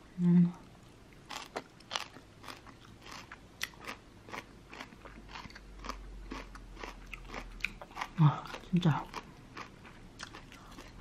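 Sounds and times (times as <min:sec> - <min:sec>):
crunchy chewing: 0:01.3 - 0:11.0.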